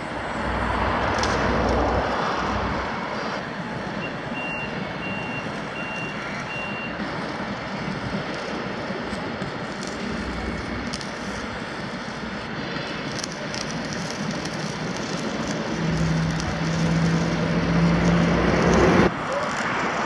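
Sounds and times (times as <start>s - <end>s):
diesel engine rumbling: 0.0s - 20.0s
steady hum: 0.0s - 20.0s.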